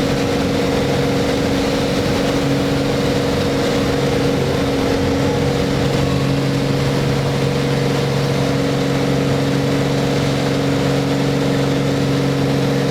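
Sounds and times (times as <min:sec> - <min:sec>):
propeller plane engine droning: 0:00.0 - 0:12.9.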